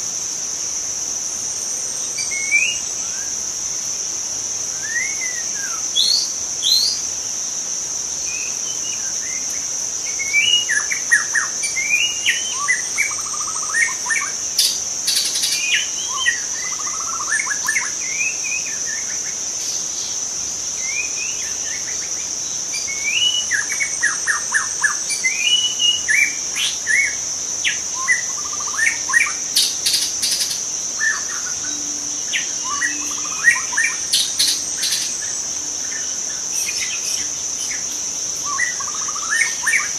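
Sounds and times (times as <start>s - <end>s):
high-pitched insect drone: 0.0s - 39.9s
bird singing whistles and chirps: 4.8s - 7.0s, 8.3s - 39.9s.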